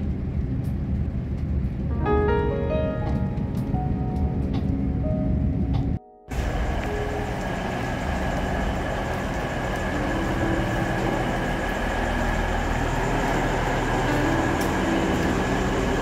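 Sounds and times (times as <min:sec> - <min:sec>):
faint steady whine: 0:00.0 - 0:16.0
vehicle rumble: 0:03.1 - 0:16.0.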